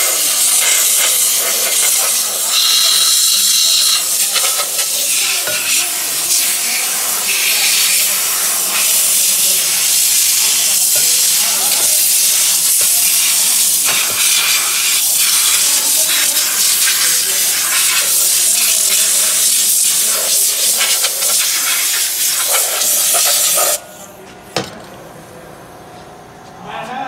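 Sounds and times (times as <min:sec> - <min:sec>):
spray gun air hiss: 0:00.0 - 0:24.0.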